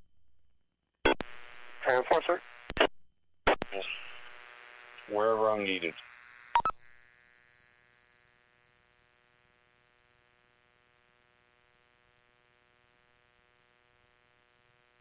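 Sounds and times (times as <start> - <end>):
electrical hum with buzz and hiss: 1.1 - 2.9, 3.5 - 15.0.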